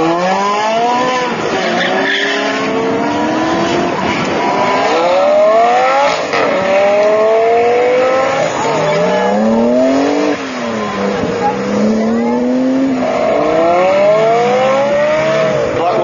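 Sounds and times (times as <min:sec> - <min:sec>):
sports car engines accelerating: 0:00.0 - 0:16.0.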